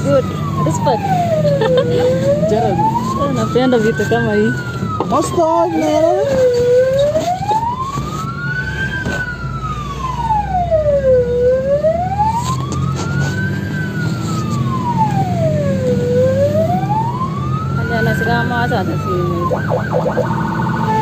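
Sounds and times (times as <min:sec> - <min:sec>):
fire engine siren wailing: 0:00.0 - 0:21.0
truck engine rumble: 0:00.0 - 0:21.0.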